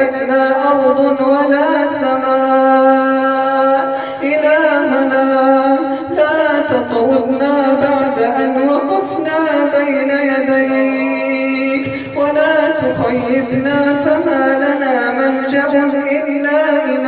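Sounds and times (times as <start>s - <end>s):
man chanting in long held notes: 0.0s - 17.0s.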